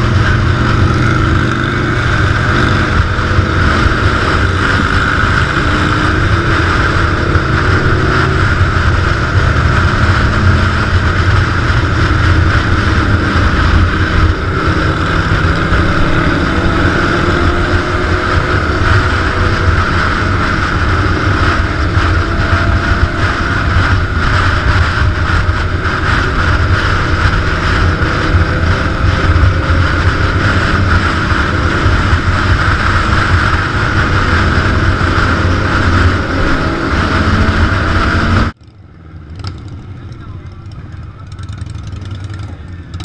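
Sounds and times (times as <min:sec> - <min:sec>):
wind rushing over microphone: 0:00.0 - 0:38.6
motorcycle engine running: 0:00.0 - 0:43.0.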